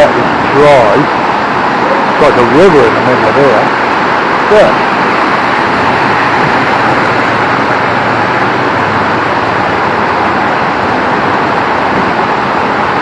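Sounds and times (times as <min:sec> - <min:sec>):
very heavy rain: 0:00.0 - 0:13.0.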